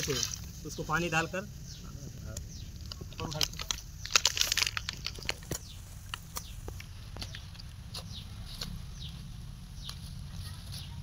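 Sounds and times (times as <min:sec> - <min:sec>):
steady low rumble: 0:00.2 - 0:11.0.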